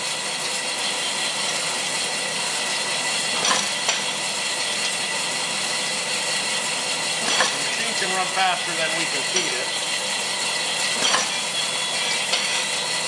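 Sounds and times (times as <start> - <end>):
conveyor machine hissing: 0.7 - 13.0.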